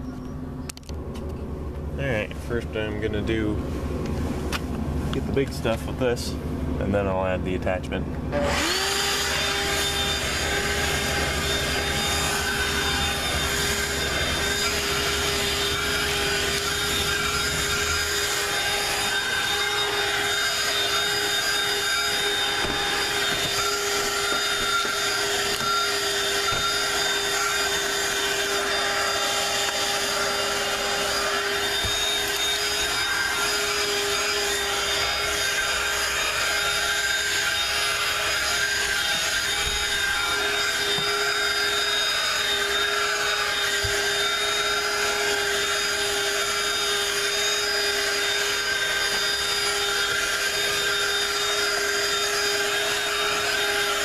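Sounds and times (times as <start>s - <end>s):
handheld vacuum running: 8.3s - 54.0s.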